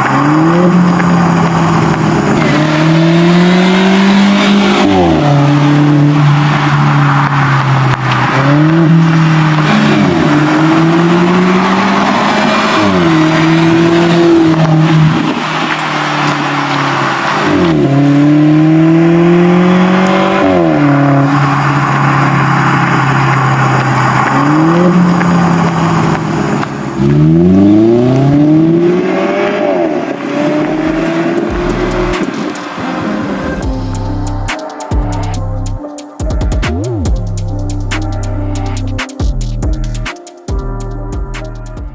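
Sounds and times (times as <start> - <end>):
engine revving: 0.0 - 34.5
car engine accelerating: 0.0 - 35.9.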